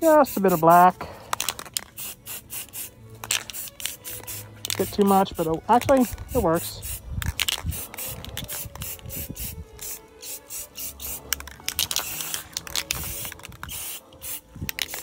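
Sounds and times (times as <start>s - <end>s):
spray can hissing: 0.0s - 15.0s.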